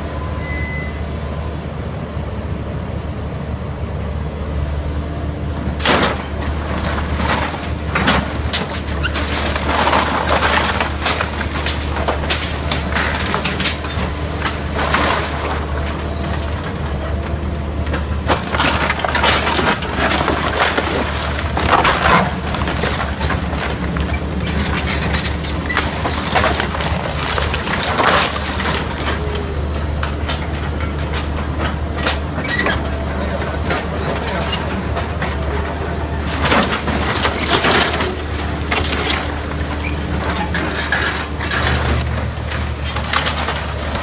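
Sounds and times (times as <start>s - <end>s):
excavator diesel engine running: 0.0s - 44.0s
wood breaking and debris crashing: 5.7s - 32.8s, 33.6s - 44.0s.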